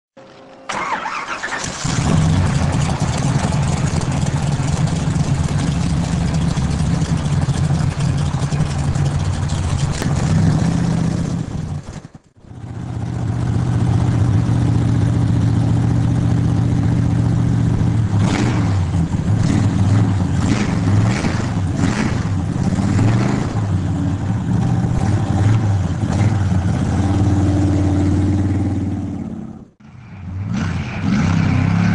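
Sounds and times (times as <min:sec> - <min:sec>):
car engine idling: 0:00.7 - 0:29.8
car engine revving: 0:00.7 - 0:31.9.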